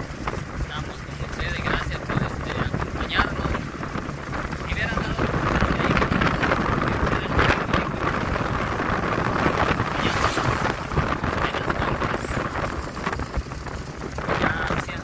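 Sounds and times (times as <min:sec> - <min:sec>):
truck and road rumble: 0:00.0 - 0:15.0
wind buffeting microphone: 0:00.0 - 0:15.0.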